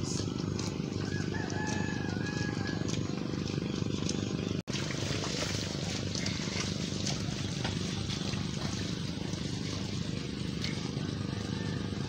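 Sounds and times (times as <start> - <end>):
small engine idling hum: 0.0 - 12.0.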